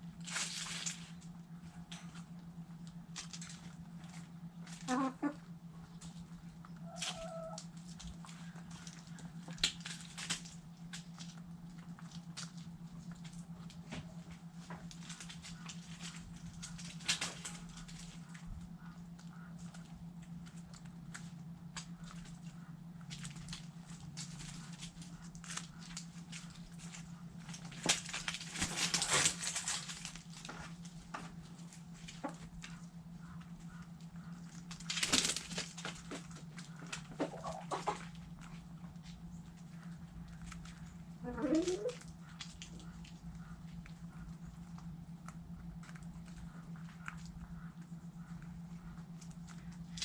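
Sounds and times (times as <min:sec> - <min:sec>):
chickens scratching rustles: 0:00.0 - 0:50.0
steady low hum: 0:00.0 - 0:50.0
chickens pecking and tapping: 0:00.1 - 0:50.0.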